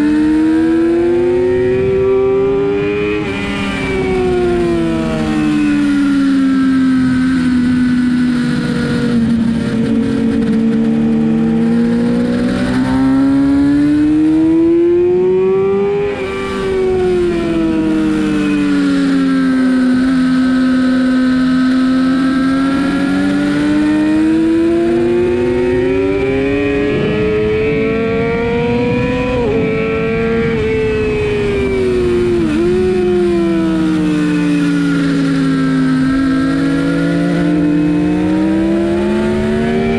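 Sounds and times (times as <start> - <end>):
motorcycle engine revving: 0.0 - 39.9
rush of wind noise: 0.0 - 39.9.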